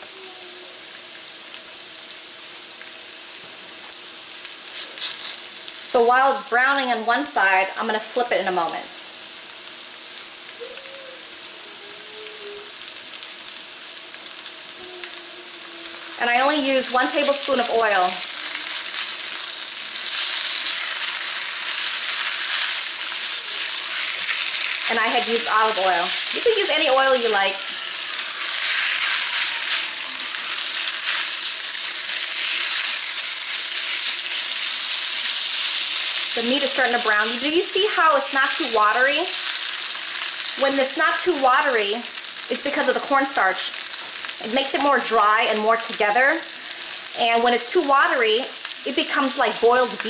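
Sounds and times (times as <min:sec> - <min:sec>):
meat sizzling in a wok: 0:00.0 - 0:50.0.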